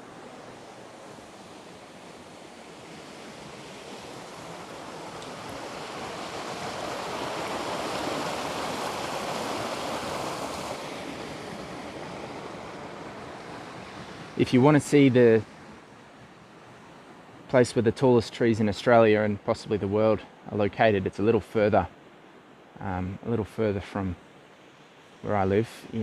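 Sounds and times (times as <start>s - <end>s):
wind rushing through trees: 0.0s - 26.0s.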